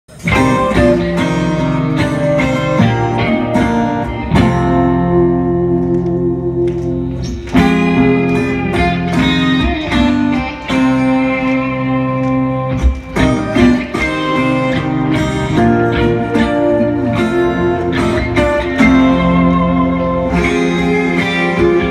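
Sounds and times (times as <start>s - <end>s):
guitar melody: 0.1s - 21.9s.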